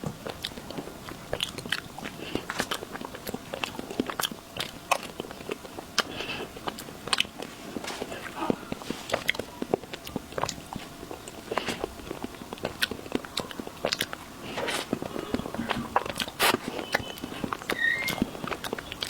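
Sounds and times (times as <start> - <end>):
chewing and mouth clicks: 0.0 - 19.0.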